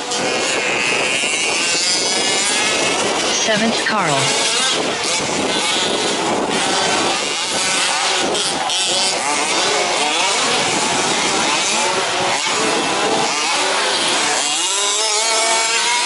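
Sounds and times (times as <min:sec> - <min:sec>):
rc truck engines buzzing: 0:00.0 - 0:03.6, 0:04.2 - 0:16.0.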